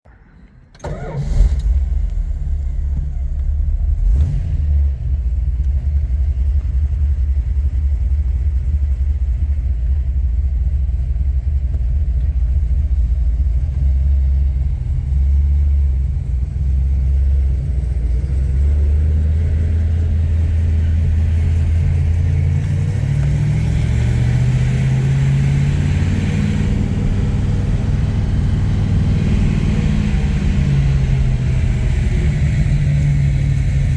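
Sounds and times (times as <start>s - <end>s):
car engine rumbling: 0.0s - 33.9s.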